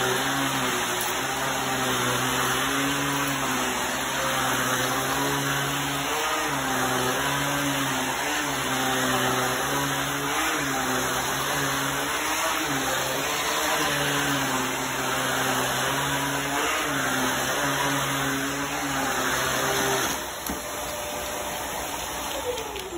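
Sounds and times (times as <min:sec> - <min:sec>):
upright vacuum cleaner running: 0:00.0 - 0:22.9.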